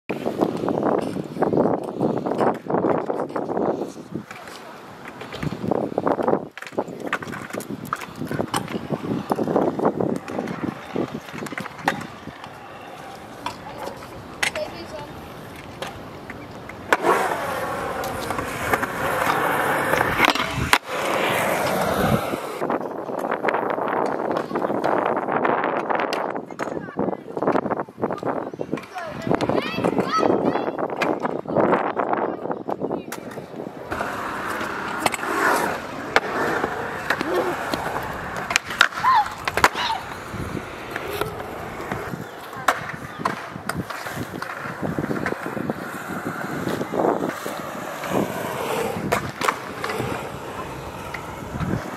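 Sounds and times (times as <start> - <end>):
skateboard wheels rolling on concrete: 0.0 - 51.9
skateboard clacking: 0.1 - 51.9.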